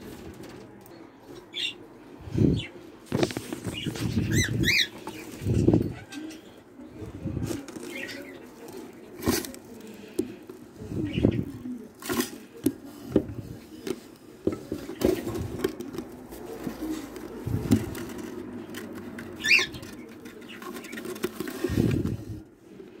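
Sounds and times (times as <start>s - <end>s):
rustling and scraping in wood shavings: 3.0s - 22.9s.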